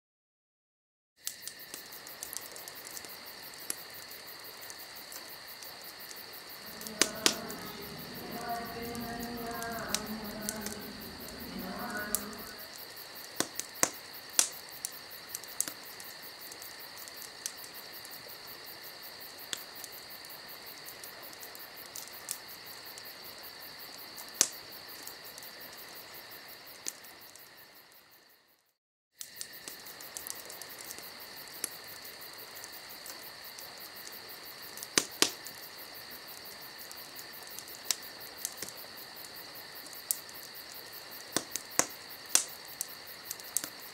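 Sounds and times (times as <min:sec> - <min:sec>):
insects chirring: 0:01.2 - 0:43.9.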